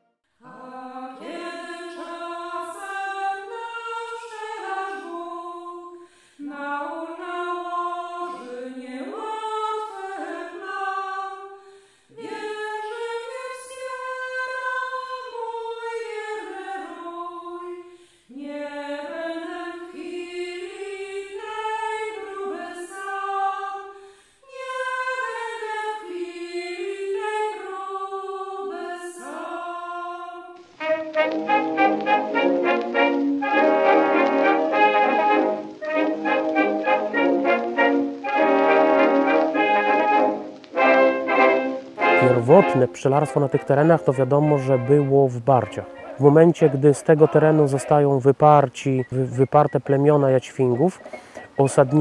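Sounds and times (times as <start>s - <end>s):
choir singing in parts: 0.4s - 48.2s, 50.7s - 52.0s.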